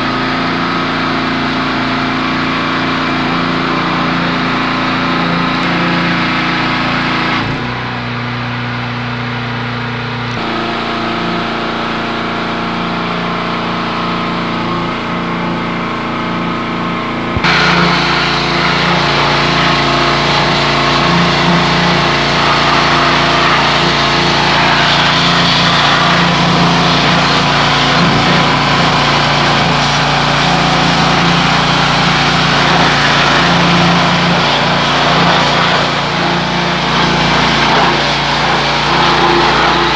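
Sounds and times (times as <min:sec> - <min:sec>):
car wash machine motor running: 0:00.0 - 0:39.9.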